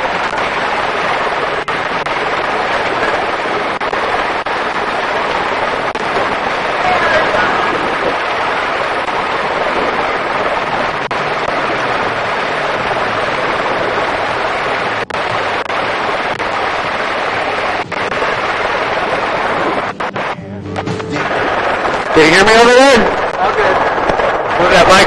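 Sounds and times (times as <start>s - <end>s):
wind blowing across microphone: 0.0s - 25.0s.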